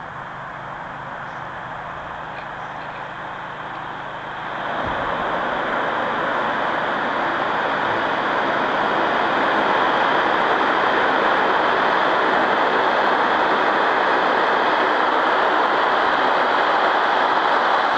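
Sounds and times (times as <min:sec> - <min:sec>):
turboprop engines rushing: 0:00.0 - 0:17.9.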